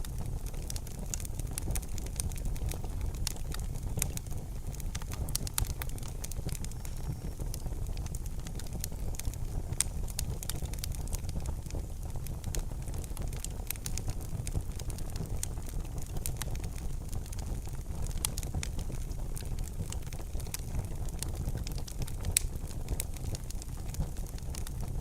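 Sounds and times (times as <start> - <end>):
fire crackles and pops: 0.0 - 25.0
fire rumbling: 0.0 - 25.0.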